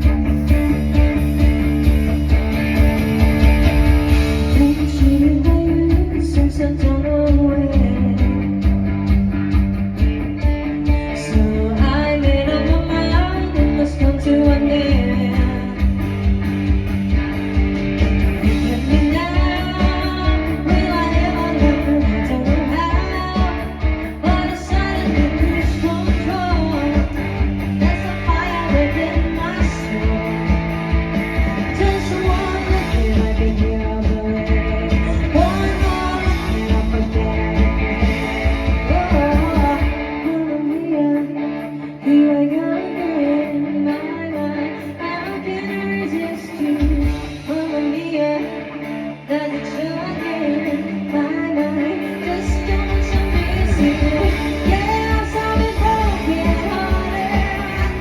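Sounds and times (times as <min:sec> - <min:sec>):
live rock band playing: 0:00.0 - 0:58.0
person singing: 0:04.1 - 0:08.8, 0:10.9 - 0:16.3, 0:18.4 - 0:58.0.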